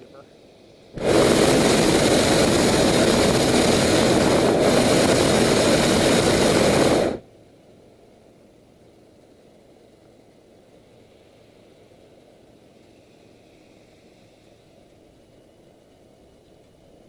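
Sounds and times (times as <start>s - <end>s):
propane burner blasting: 0.0s - 17.0s.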